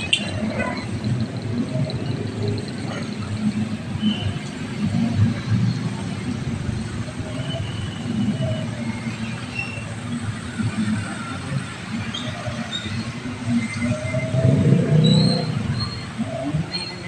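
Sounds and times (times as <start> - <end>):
traffic engines running: 0.0 - 17.0.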